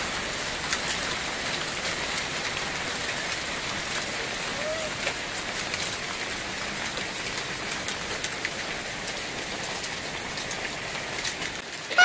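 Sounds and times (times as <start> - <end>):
hail pattering: 0.0 - 12.0.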